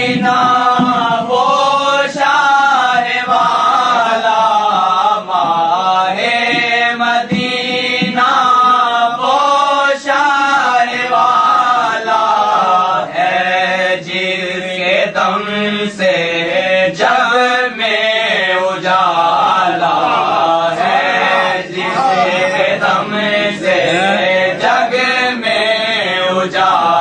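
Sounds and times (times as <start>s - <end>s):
man chanting melodically: 0.0s - 27.0s.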